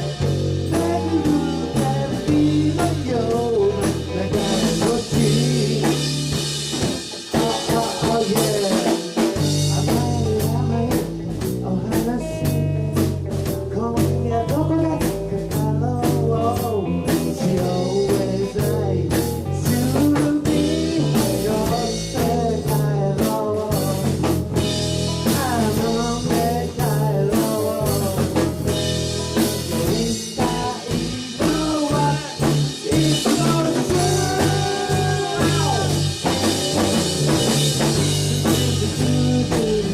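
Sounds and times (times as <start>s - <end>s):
bass: 0.0s - 39.9s
drum kit: 0.0s - 39.9s
guitar: 0.0s - 39.9s.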